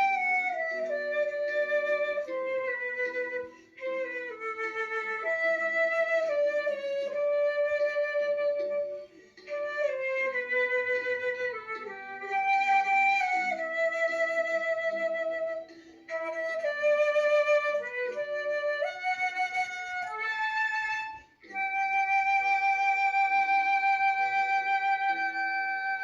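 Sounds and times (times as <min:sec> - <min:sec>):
flute playing slow melody: 0:00.0 - 0:26.0.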